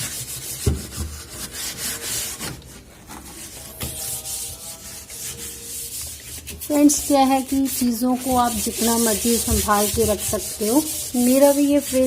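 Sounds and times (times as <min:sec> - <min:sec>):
scrubber pad scratching: 0:00.0 - 0:12.0.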